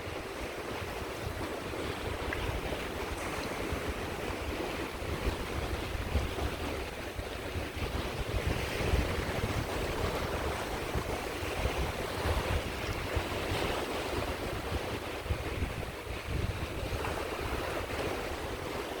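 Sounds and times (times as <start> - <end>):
sea waves washing onto beach: 0.0 - 19.0
wind rumbling on microphone: 0.0 - 19.0.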